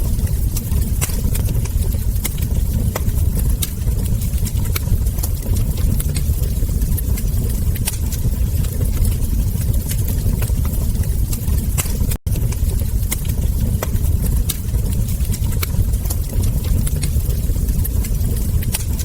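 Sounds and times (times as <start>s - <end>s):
log fire crackling and popping: 0.0s - 19.0s.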